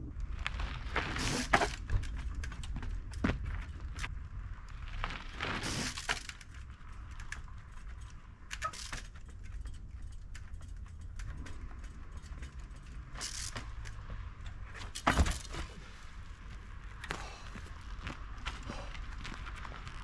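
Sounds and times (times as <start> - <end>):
steady low rumble: 0.0 - 20.0
bicycle clicks and knocks on rock: 0.1 - 20.0.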